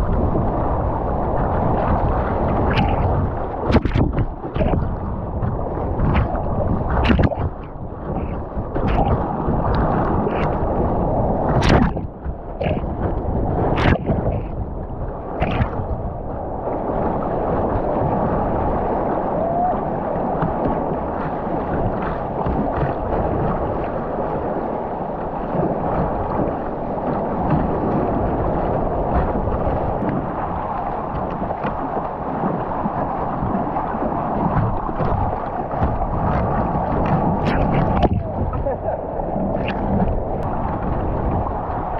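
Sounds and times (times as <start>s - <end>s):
muffled rush of river current: 0.0s - 41.9s
water splashing over kayak bow: 0.0s - 41.9s.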